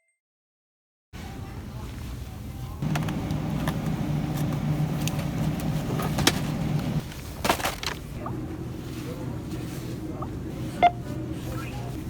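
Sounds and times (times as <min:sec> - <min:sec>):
low mechanical hum: 0:01.2 - 0:12.0.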